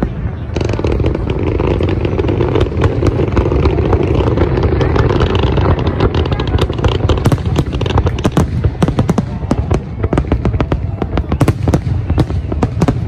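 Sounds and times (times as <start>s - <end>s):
fireworks crackling pops: 0.0s - 13.0s
fireworks launches and bursts: 0.0s - 13.0s.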